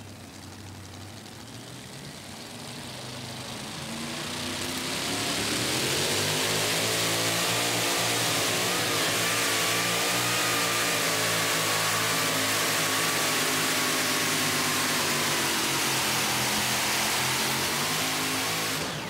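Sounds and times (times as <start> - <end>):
supercharged engine at full throttle: 0.0 - 19.0.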